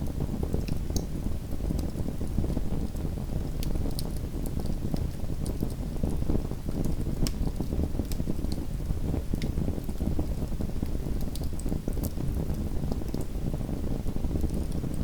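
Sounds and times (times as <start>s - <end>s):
wood fire crackling: 2.9s - 15.0s.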